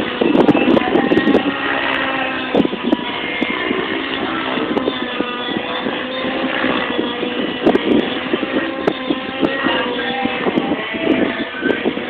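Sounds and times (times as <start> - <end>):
model helicopter engine whine: 0.0 - 12.0
wind buffeting microphone: 0.0 - 12.0.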